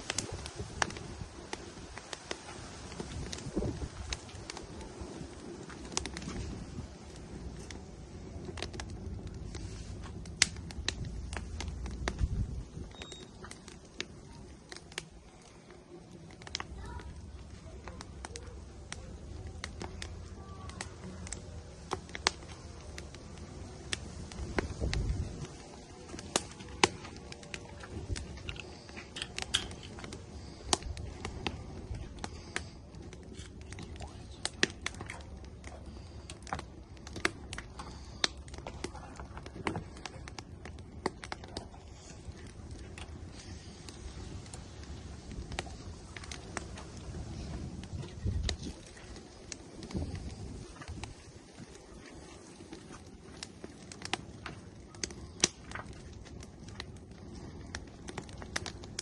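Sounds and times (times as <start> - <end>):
firewood crackling and popping: 0.0 - 59.0
low steady rumble: 0.0 - 59.0.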